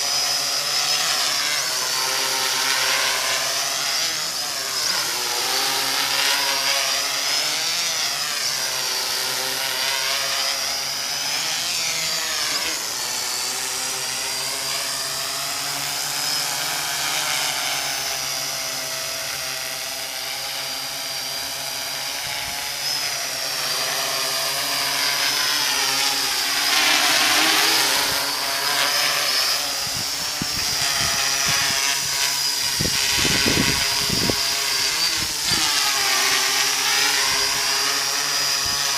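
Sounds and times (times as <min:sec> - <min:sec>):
quadcopter motors buzzing: 0:00.0 - 0:38.9.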